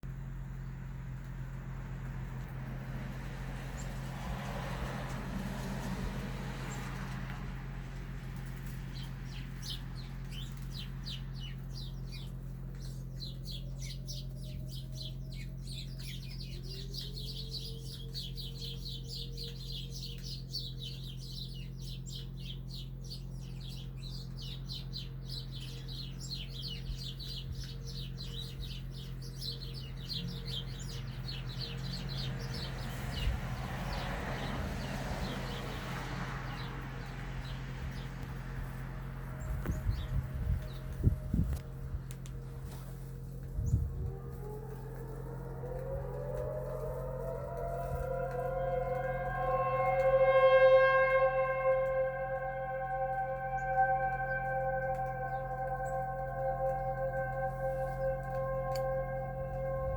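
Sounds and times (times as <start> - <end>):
distant tornado warning siren: 0.1 - 59.9
small birds chirping: 6.5 - 50.1, 51.8 - 59.9.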